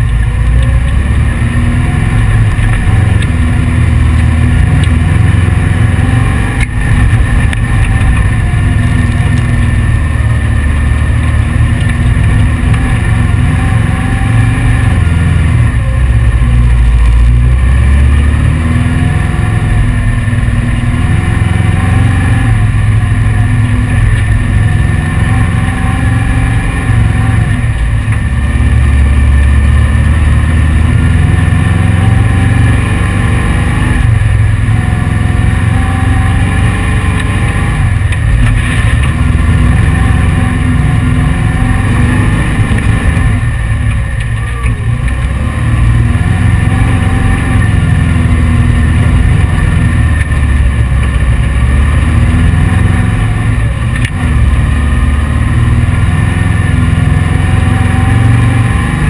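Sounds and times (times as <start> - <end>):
dune buggy engine running: 0.0 - 59.0.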